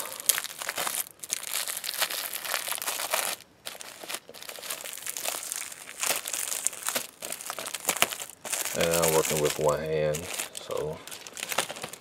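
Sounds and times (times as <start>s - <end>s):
plastic shrink wrap tearing: 0.0s - 12.0s.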